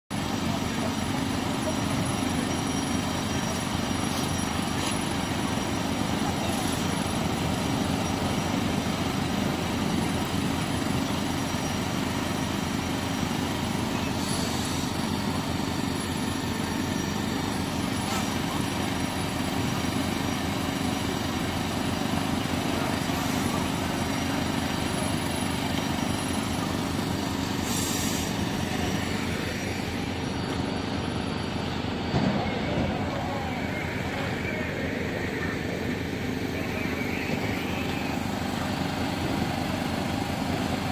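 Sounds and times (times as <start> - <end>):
low engine drone: 0.1 - 40.9.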